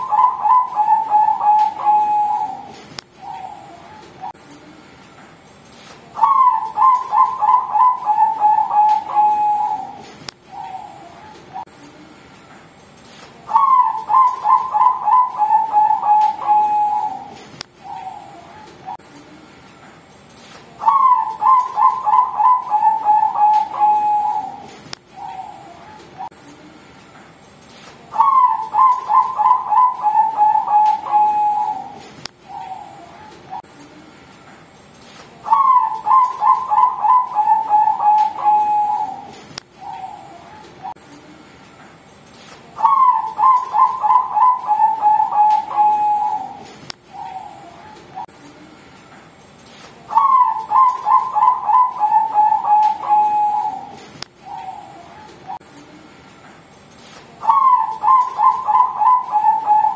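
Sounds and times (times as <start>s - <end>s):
dove cooing: 0.0s - 4.9s, 6.1s - 12.2s, 13.4s - 19.5s, 20.4s - 26.9s, 28.1s - 34.2s, 35.4s - 41.5s, 42.7s - 48.8s, 50.0s - 56.1s, 57.4s - 59.9s.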